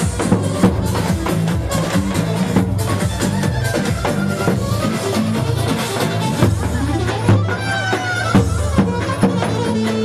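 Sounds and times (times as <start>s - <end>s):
steady bass: 0.0s - 9.8s
heavy drum beats: 0.0s - 10.0s
high winding melody instrument: 0.0s - 10.0s.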